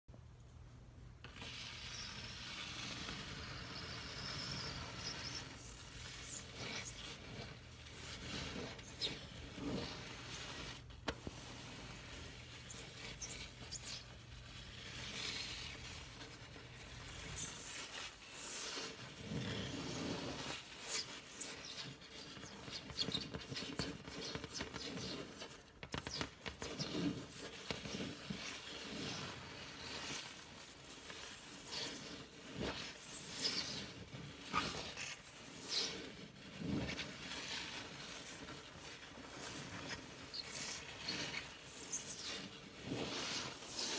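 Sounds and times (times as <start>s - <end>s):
fingernail scraping a stovetop: 1.2s - 43.9s.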